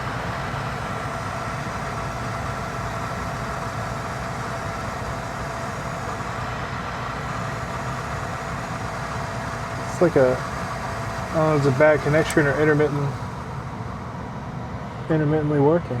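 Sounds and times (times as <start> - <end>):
furnace motor humming: 0.0 - 16.0.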